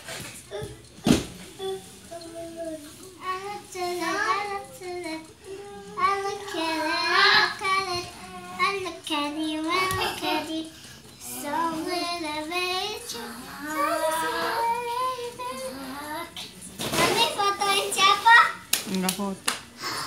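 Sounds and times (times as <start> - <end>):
child singing: 1.5 - 18.7.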